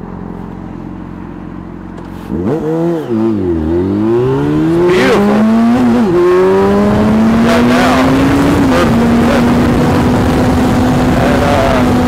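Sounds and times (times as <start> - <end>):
motorcycle engine revving: 0.8 - 12.0.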